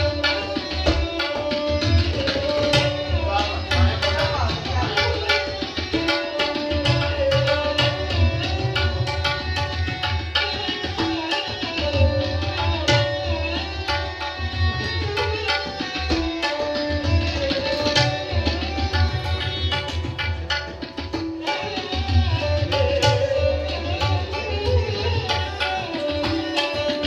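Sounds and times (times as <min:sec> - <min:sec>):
sarangi bowed melody: 0:00.0 - 0:27.0
tabla rhythm: 0:00.0 - 0:27.0.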